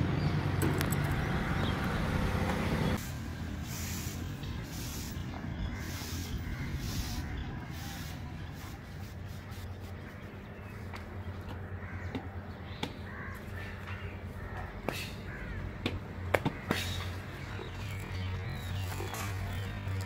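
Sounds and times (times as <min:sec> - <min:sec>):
birds calling: 0:03.7 - 0:20.0.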